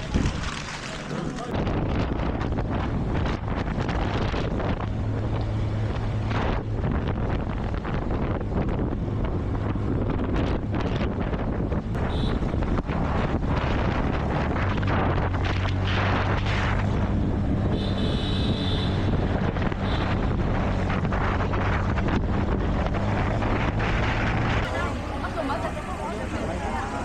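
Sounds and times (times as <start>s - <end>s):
wind rush on microphone: 0.0s - 27.0s.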